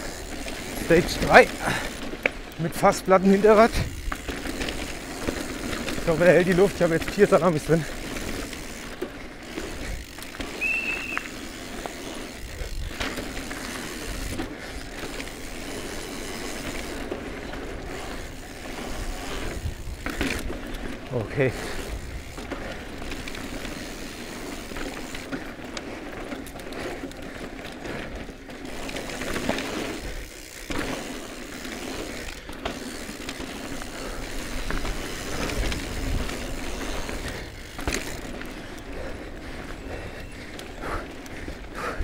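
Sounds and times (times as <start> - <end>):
bike rattling over bumps: 0.0 - 42.0
tyres rolling on dirt and stones: 0.0 - 42.0.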